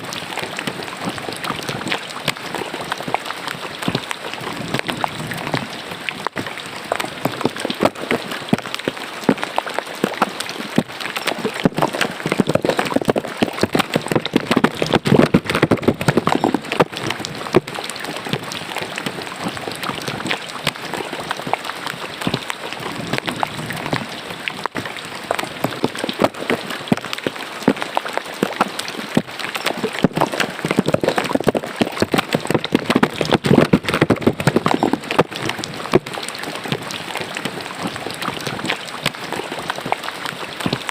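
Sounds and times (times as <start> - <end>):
rain splashing into drain: 0.0 - 40.9.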